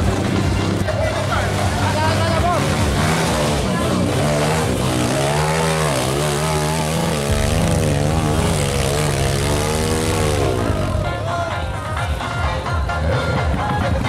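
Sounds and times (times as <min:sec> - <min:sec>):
motorcycle engine revving: 0:00.0 - 0:14.0
motorcycle engine running: 0:00.0 - 0:14.0.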